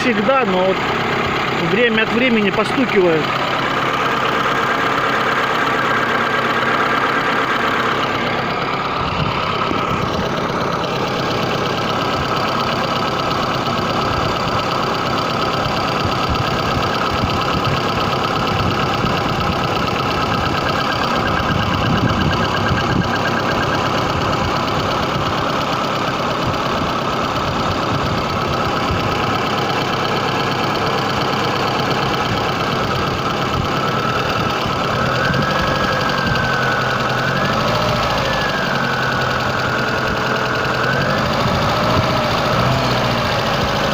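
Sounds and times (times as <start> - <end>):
car engine running: 0.0 - 43.9
engine knocking: 0.0 - 43.9.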